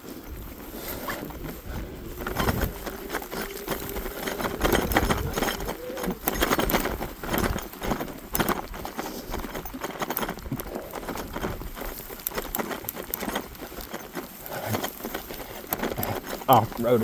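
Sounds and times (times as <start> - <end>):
wind noise: 0.0 - 14.1
bike tyres crunching snow: 0.0 - 17.0.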